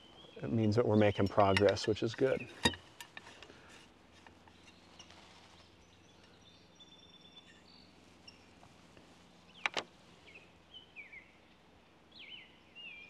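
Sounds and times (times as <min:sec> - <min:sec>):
faint songbirds calling: 0:00.0 - 0:13.0.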